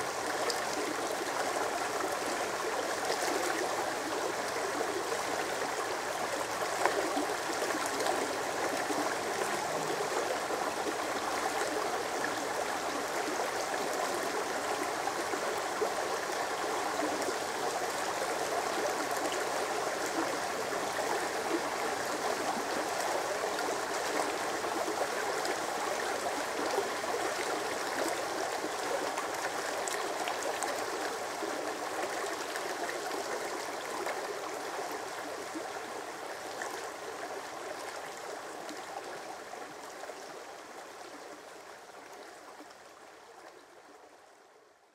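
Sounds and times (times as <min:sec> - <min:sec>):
stream babbling over stones: 0:00.0 - 0:44.2.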